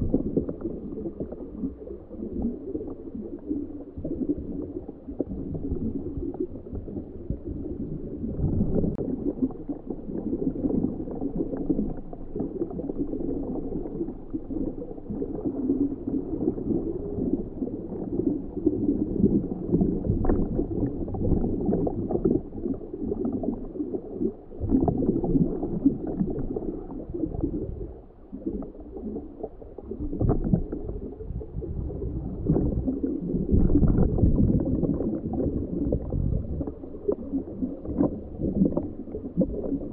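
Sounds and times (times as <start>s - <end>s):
muffled underwater rumble and gurgling: 0.0s - 39.9s.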